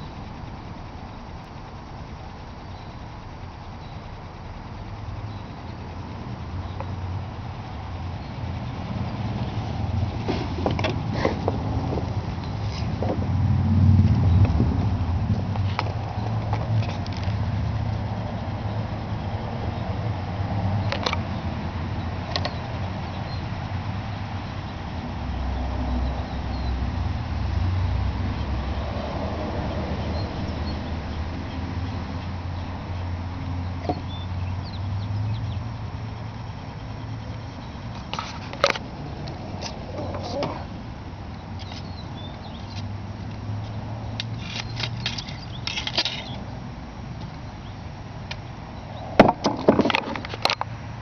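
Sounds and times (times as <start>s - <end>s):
small engine rumbling with flutter: 0.0s - 51.0s.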